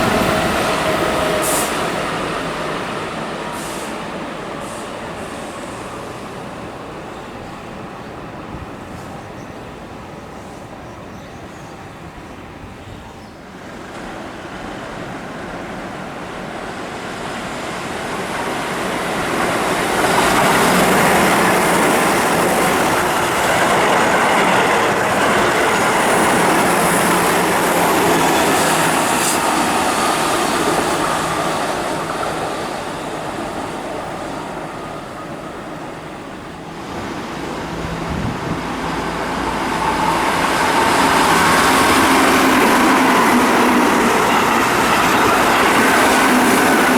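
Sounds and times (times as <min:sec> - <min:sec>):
electric train passing: 0:00.0 - 0:46.9.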